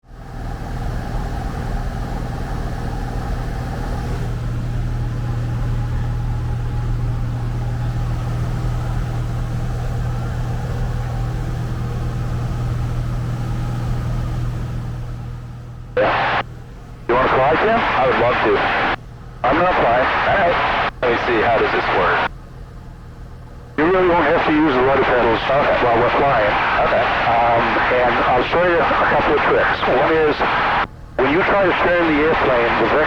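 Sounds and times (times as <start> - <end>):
airplane engine drone in cabin: 0.0 - 33.0.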